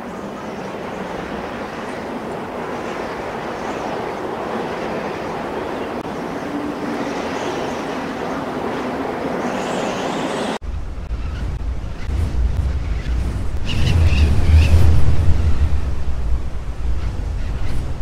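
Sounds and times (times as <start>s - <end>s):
wind rustling tree leaves: 0.0s - 18.0s.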